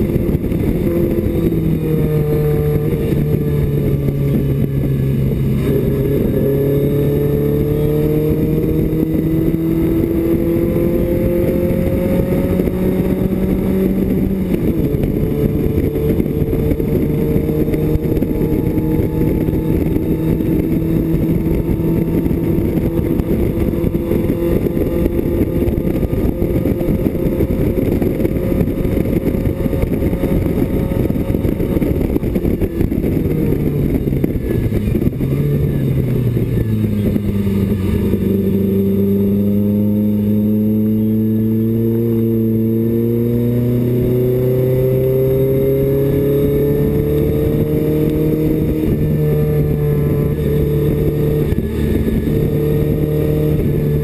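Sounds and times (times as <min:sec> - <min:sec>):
car engine pulling hard: 0:00.0 - 0:54.0.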